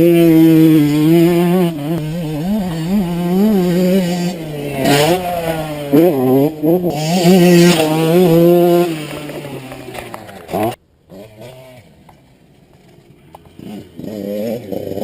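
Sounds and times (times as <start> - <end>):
two-stroke motorbike engine revving: 0.0 - 15.0.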